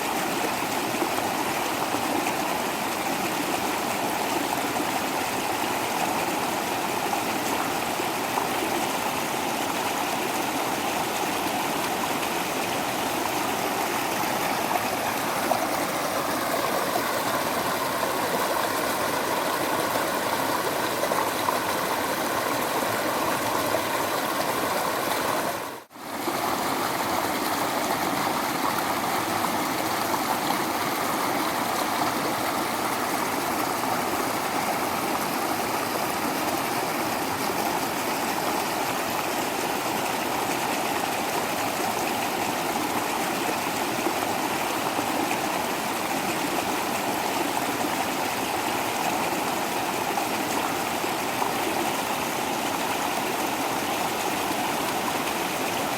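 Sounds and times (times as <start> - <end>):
waterfall rushing and splashing: 0.0 - 55.9.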